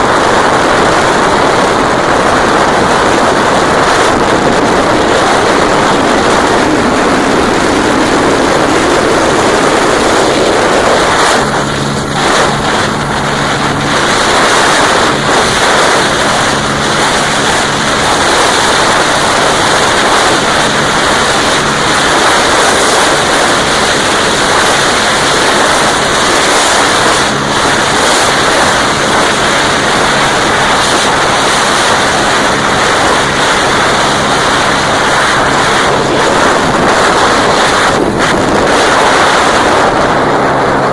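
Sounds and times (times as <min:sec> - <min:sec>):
wind rushing over microphone: 0:00.0 - 0:40.9
motorcycle engine running flat out: 0:02.4 - 0:40.9.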